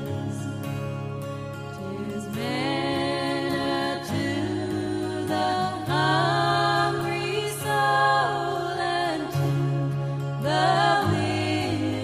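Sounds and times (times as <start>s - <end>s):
vocal group singing a hymn: 1.7s - 12.0s.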